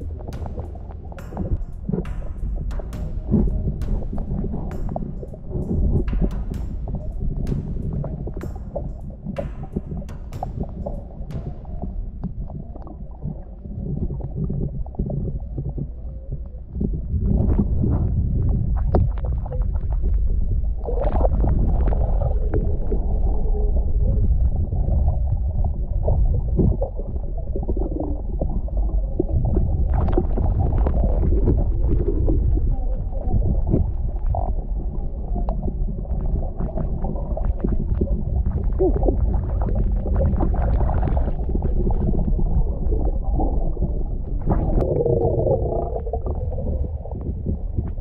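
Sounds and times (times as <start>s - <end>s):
bubbles gurgling from snorkel: 0.0s - 48.0s
underwater clicks and crackles: 0.0s - 48.0s
underwater water rumble: 0.0s - 48.0s.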